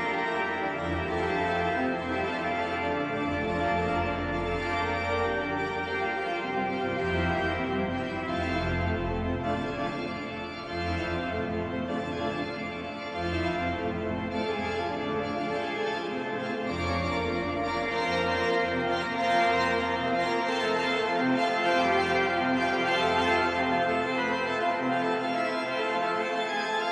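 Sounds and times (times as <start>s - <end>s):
deep organ pedal bass notes: 0.0s - 26.7s
pipe organ chords: 0.0s - 26.9s.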